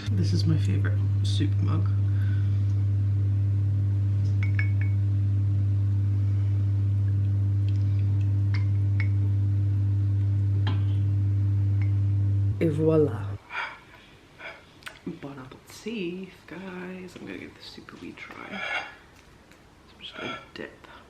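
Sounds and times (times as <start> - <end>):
appliance electrical hum: 0.0 - 21.0.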